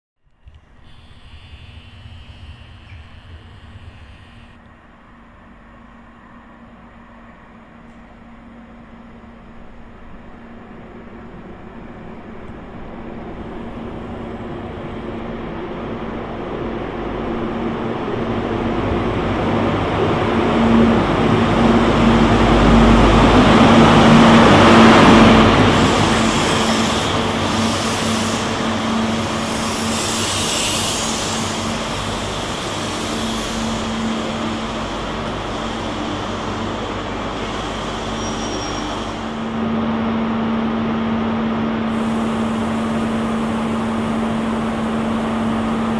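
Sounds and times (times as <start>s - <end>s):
diesel train engine: 0.2s - 45.9s.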